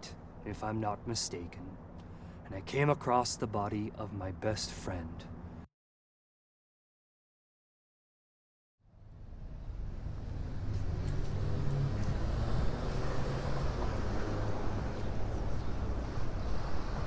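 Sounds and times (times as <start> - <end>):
low traffic rumble: 0.0 - 5.7, 8.8 - 17.0.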